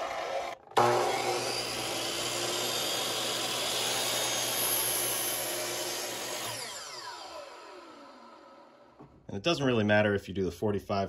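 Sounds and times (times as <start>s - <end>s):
miter saw cutting wood: 0.0s - 9.0s.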